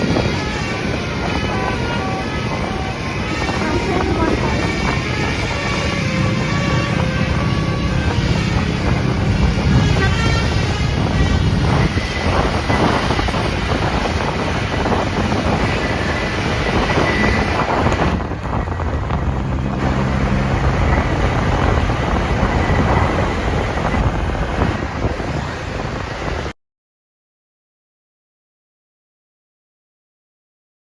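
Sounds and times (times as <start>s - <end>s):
buses passing: 0.0s - 26.6s
wind buffeting microphone: 0.0s - 26.6s.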